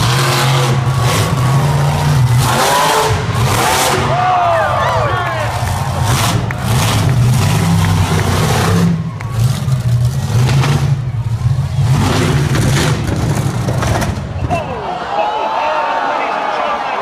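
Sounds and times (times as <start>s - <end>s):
monster truck engine revving: 0.0s - 14.6s.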